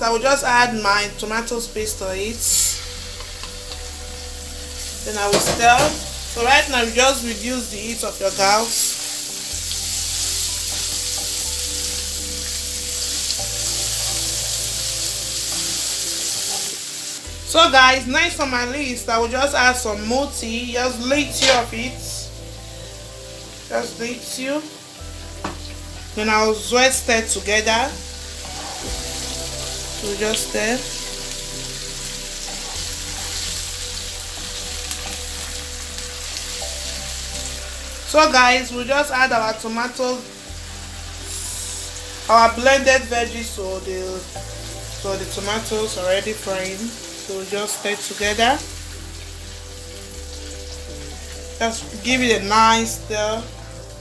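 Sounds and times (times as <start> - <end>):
food sizzling in a frying pan: 0.0 - 54.0.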